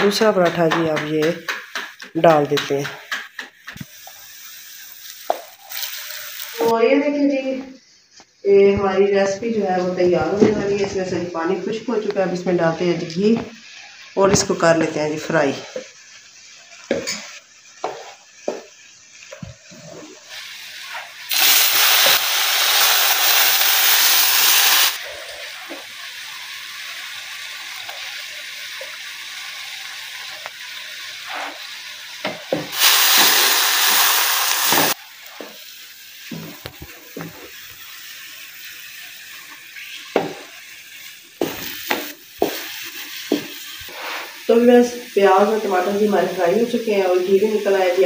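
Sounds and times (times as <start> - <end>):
food sizzling in a pan: 0.0 - 48.0
loud sizzling hiss: 0.0 - 48.0.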